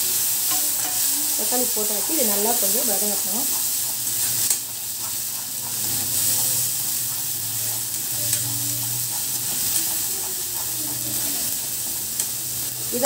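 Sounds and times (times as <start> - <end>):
food sizzling in oil: 0.0 - 13.0
spatula scraping pan: 0.4 - 13.0
spatula tapping pan: 0.4 - 13.0.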